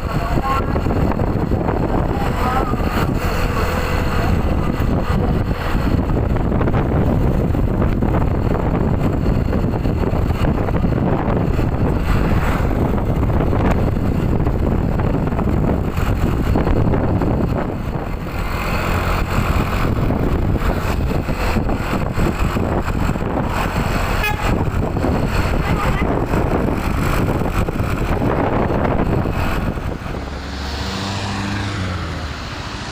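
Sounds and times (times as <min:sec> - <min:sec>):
bus engine running: 0:00.0 - 0:32.9
road noise: 0:00.0 - 0:32.9.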